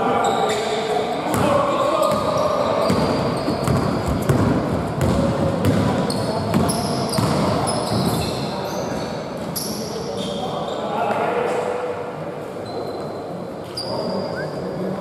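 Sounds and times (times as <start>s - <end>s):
sneaker squeaks: 0.0s - 4.4s, 5.0s - 11.2s, 12.6s - 14.8s.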